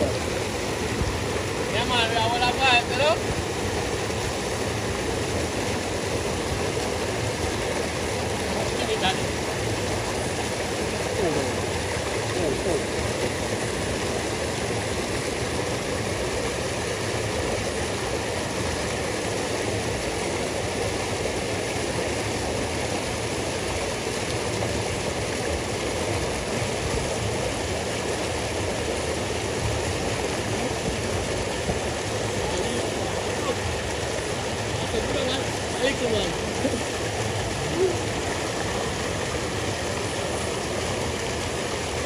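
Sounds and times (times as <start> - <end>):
river water rushing over rocks: 0.0 - 42.0.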